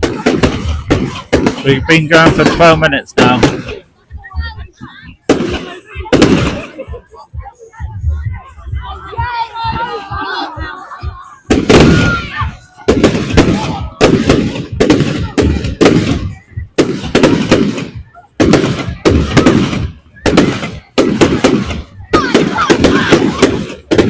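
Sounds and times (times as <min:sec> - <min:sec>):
fireworks bursting with loud bangs: 0:00.0 - 0:07.0, 0:11.2 - 0:24.0.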